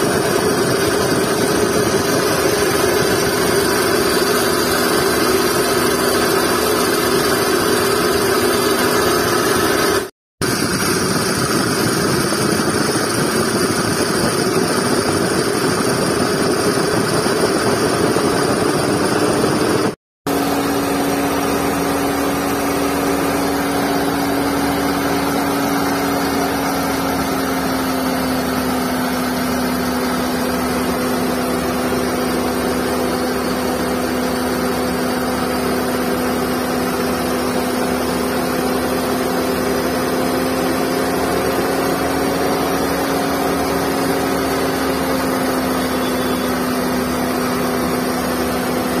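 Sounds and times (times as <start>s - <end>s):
car engine running: 0.0s - 49.0s
whining belt hum: 0.0s - 49.0s.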